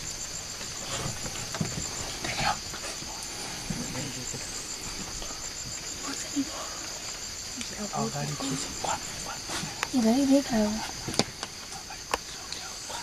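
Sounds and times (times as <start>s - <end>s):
insects singing: 0.0s - 13.0s.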